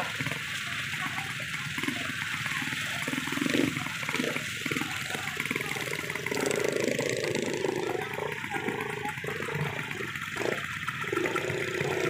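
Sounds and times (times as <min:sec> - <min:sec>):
crowd hubbub: 0:00.0 - 0:12.0
motorbike engines running: 0:00.0 - 0:12.0.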